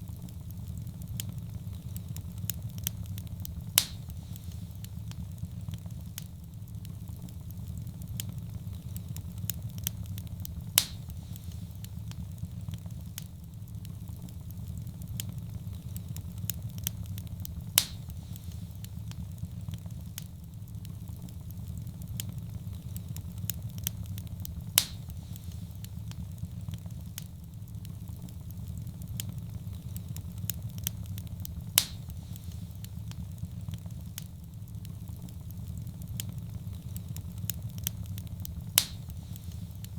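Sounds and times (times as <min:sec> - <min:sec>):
wood fire roaring and crackling: 0:00.0 - 0:39.9
loud sharp fire pops: 0:00.1 - 0:39.9.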